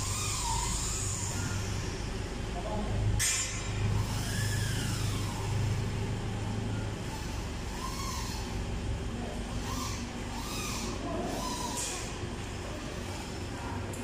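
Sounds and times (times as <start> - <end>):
workshop hiss: 0.0 - 14.0.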